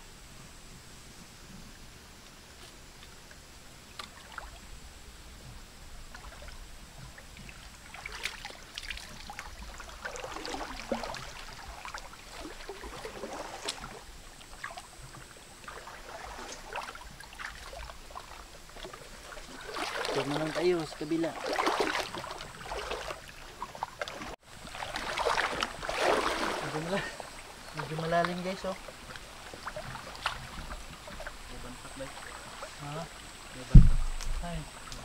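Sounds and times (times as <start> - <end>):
water splashing from wading: 3.9 - 4.7, 6.1 - 35.0.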